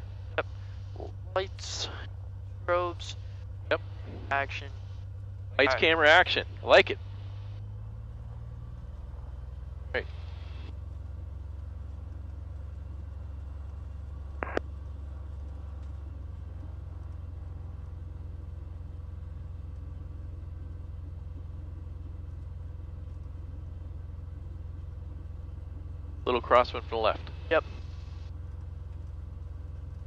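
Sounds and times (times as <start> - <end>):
aircraft engine droning: 0.0 - 30.0.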